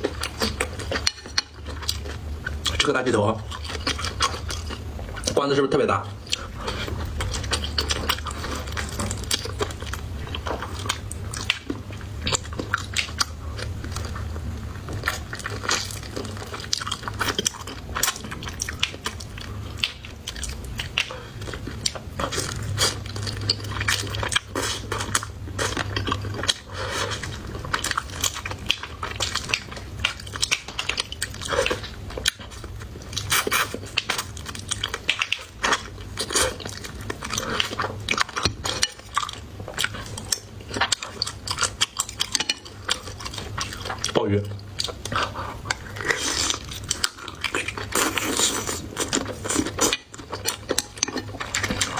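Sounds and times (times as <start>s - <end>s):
low steady hum: 0.0s - 51.9s
person biting and chewing: 6.3s - 51.9s.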